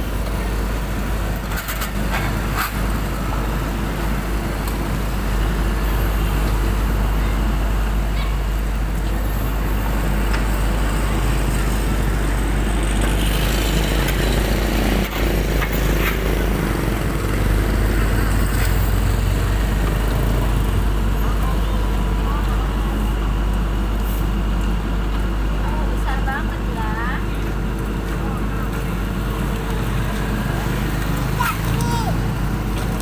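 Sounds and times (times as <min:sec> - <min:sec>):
dump truck engine rumbling: 0:00.0 - 0:33.0.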